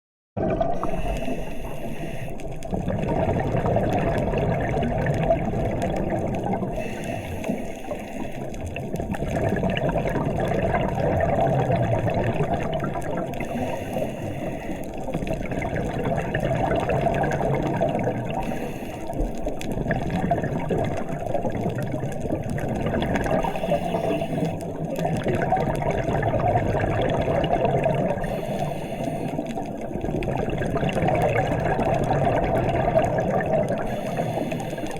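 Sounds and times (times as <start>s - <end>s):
muffled underwater water noise: 0.4s - 34.9s
regulator bubbles: 0.4s - 34.9s
scuba breathing: 0.6s - 34.9s.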